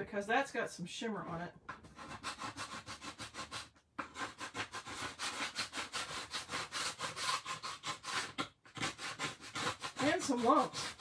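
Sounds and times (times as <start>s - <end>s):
scraping paste off board: 1.3s - 11.0s.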